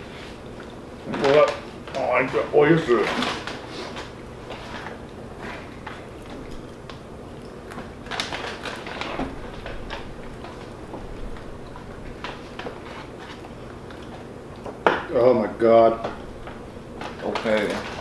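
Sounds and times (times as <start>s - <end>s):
steady low hum: 0.0s - 18.0s
clicks and rustles of food handling: 0.1s - 15.2s, 15.8s - 18.0s.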